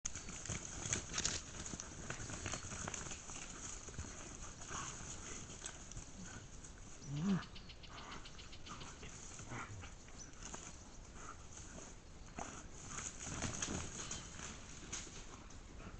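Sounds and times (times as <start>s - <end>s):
animal rustling and ticks: 0.1s - 15.9s.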